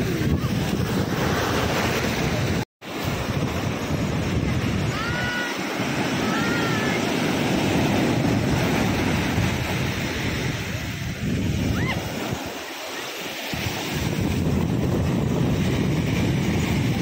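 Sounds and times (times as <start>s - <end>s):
wind buffeting microphone: 0.0s - 12.6s, 13.4s - 17.0s
surf breaking in shallows: 0.0s - 17.0s.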